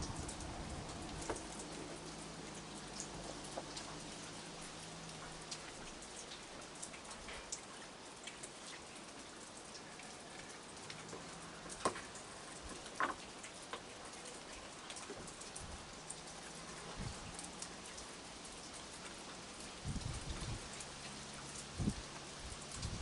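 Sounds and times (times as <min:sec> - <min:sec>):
raindrops tapping on surfaces: 0:00.0 - 0:23.0
steady rain: 0:00.0 - 0:23.0.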